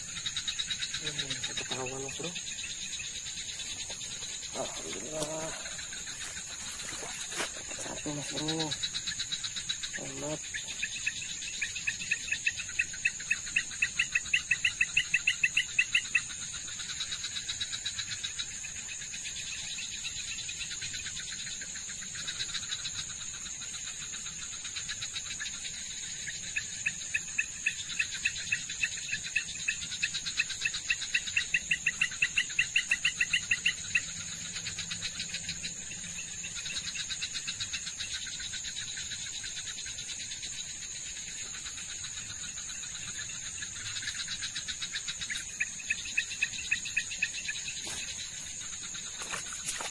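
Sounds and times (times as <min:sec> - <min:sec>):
high-pitched insect drone: 0:00.0 - 0:49.9
pulsed insect chirping: 0:00.0 - 0:49.9.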